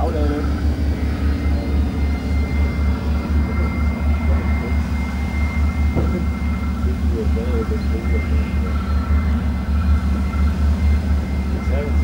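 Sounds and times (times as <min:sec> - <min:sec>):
heavy engine throbbing: 0:00.0 - 0:12.0
high whine: 0:00.0 - 0:12.0.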